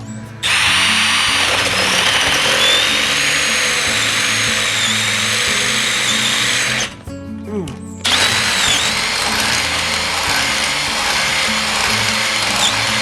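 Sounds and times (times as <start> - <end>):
power drill boring metal: 0.4 - 7.0, 8.0 - 13.0.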